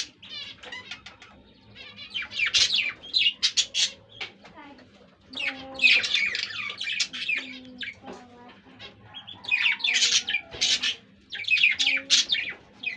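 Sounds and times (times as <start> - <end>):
budgerigars chattering: 0.0 - 4.6, 5.3 - 12.9.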